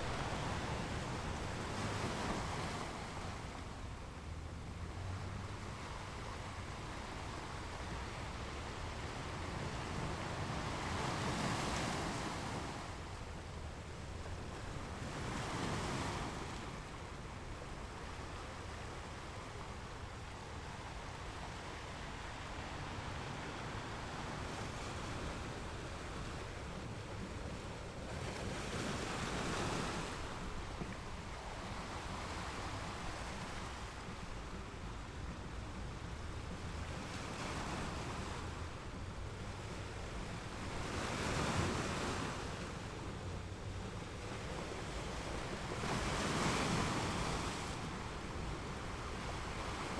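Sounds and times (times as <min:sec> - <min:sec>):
ocean waves washing onto shore: 0:00.0 - 0:49.9.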